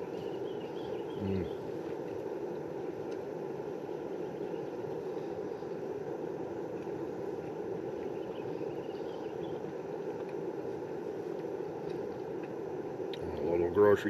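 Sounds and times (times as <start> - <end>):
camp stove burner roaring: 0.0 - 14.0.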